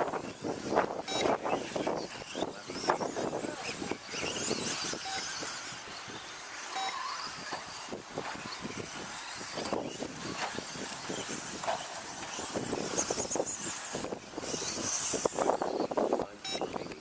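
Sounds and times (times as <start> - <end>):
toy truck drivetrains whirring: 0.0 - 17.0
trucks landing with sharp clacks: 0.0 - 17.0
tyres scrabbling: 0.0 - 17.0.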